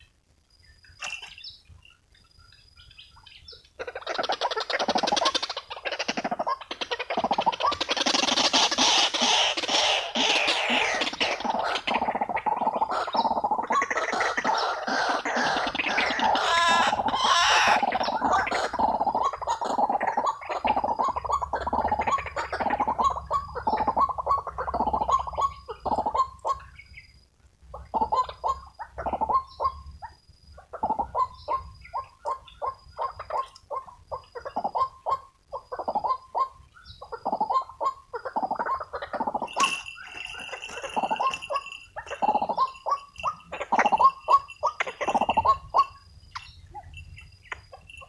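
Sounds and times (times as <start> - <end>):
bird calling harsh repeated notes: 3.7 - 27.2, 27.8 - 48.0.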